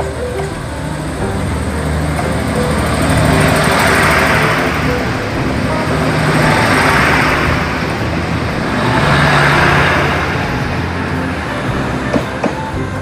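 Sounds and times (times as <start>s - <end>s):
diesel engines humming: 0.0s - 13.0s
train wheels on rails: 0.0s - 13.0s.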